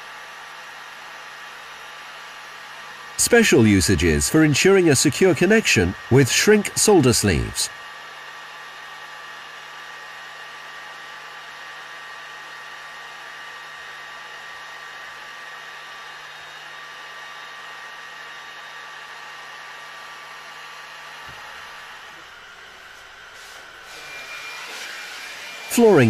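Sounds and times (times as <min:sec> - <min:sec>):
hot-air blower whining: 0:00.0 - 0:26.0.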